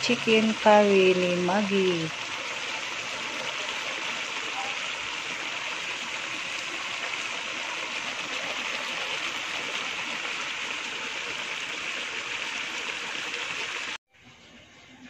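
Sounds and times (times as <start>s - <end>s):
curry bubbling and sizzling: 0.0s - 14.0s.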